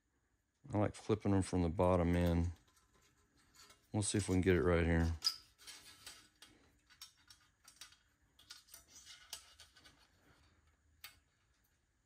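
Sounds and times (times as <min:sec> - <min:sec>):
small metal clicks and scrapes: 0:01.9 - 0:11.7.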